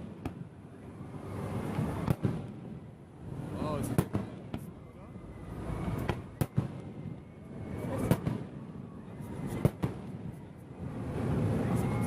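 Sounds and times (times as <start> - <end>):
fireworks bangs: 0.0 - 11.8
low continuous rumble: 0.0 - 12.0.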